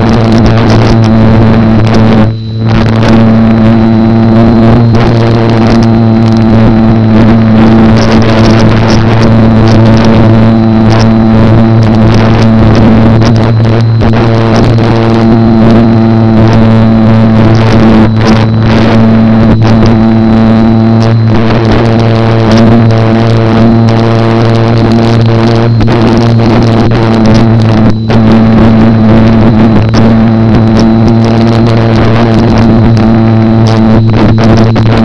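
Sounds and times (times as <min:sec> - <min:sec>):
electric propeller droning buzz: 0:00.0 - 0:35.0
faint high whine: 0:00.0 - 0:35.0.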